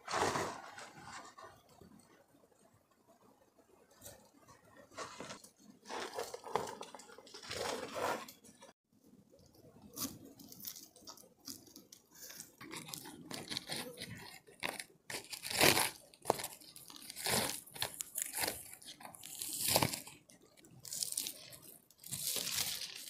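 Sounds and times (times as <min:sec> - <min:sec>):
plastic tarpaulin and rope crinkling: 0:00.0 - 0:01.5, 0:04.8 - 0:08.8, 0:09.9 - 0:23.0.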